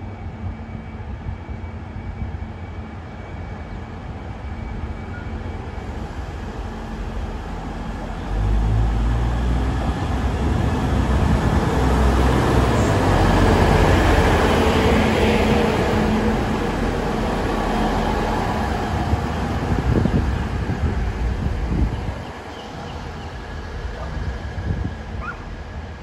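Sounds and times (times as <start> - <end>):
diesel train engine rumble: 0.0 - 26.0
rail wheel noise: 0.0 - 26.0.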